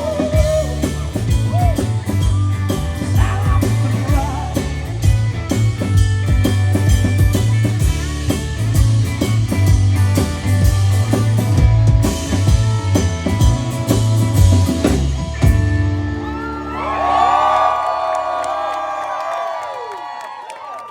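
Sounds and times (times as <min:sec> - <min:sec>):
drum kit: 0:00.0 - 0:17.2
live band playing: 0:00.0 - 0:17.3.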